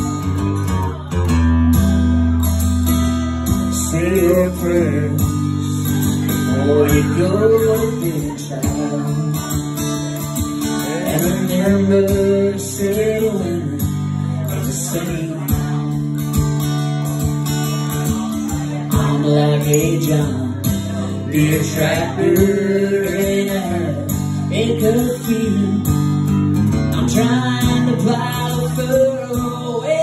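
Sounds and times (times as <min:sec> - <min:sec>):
strummed acoustic guitar: 0:00.0 - 0:30.0
man singing: 0:03.4 - 0:30.0.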